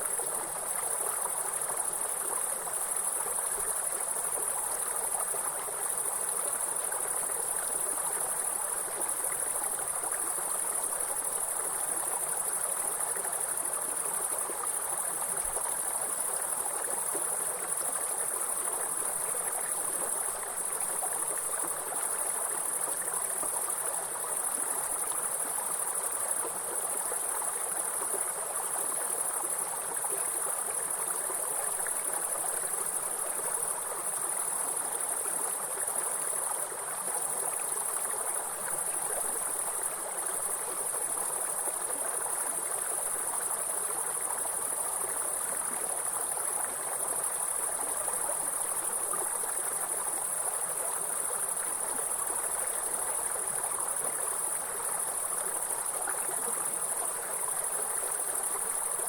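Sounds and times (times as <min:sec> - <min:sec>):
running stream: 0:00.0 - 0:59.0.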